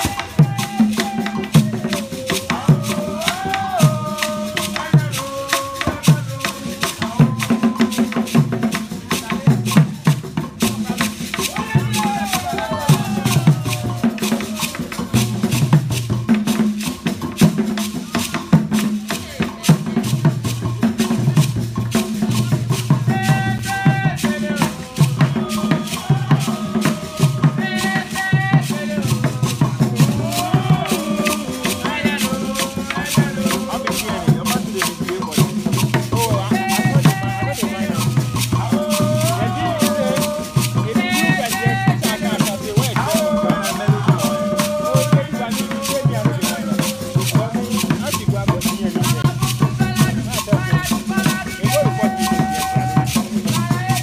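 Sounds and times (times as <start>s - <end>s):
fast shaker rattle: 0.0s - 54.0s.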